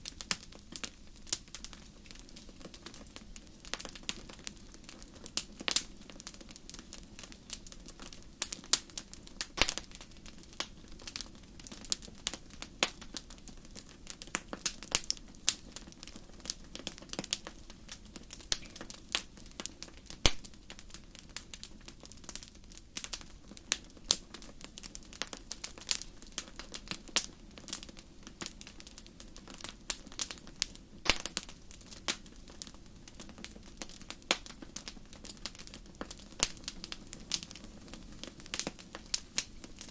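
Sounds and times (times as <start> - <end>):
campfire crackling and popping: 0.0 - 39.9
low rush of fire: 0.0 - 39.9.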